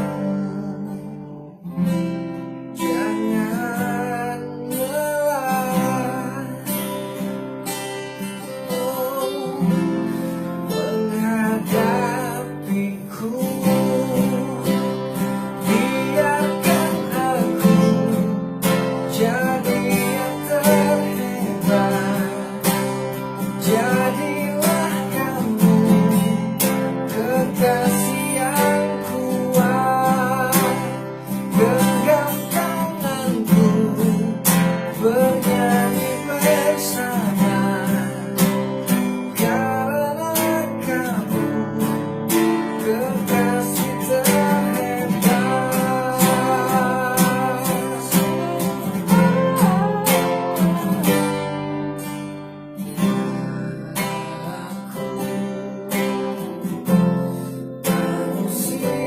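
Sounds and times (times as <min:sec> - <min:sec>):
man singing slow pop song: 0:00.0 - 0:59.0
strummed acoustic guitar: 0:00.0 - 0:59.0.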